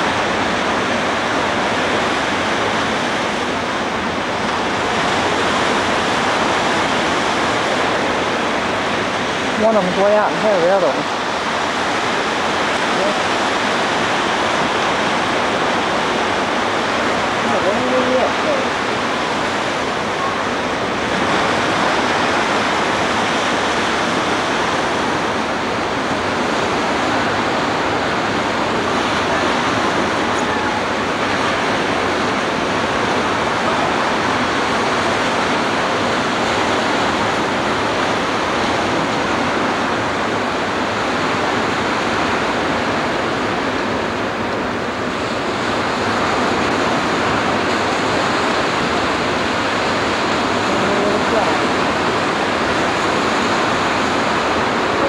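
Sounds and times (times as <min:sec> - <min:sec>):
ocean surf breaking: 0:00.0 - 0:55.0.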